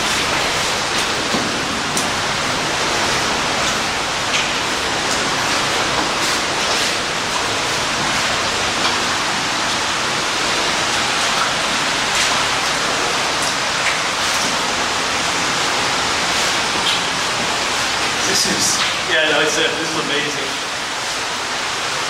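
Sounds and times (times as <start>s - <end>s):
waterfall roar: 0.0s - 22.0s.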